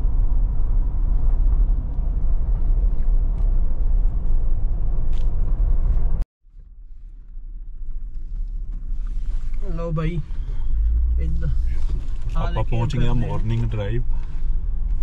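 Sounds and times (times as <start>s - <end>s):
car cabin engine and road rumble: 0.0s - 15.0s.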